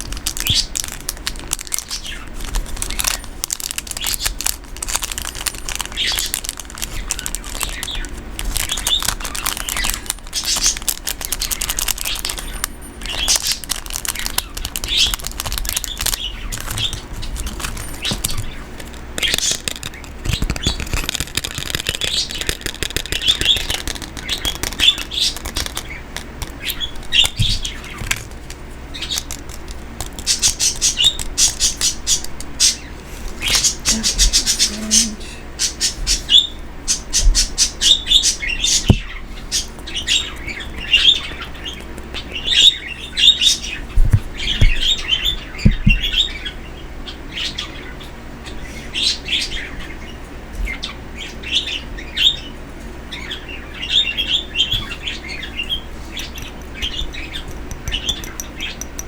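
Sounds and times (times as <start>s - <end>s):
pet birds chirping: 0.0s - 59.0s.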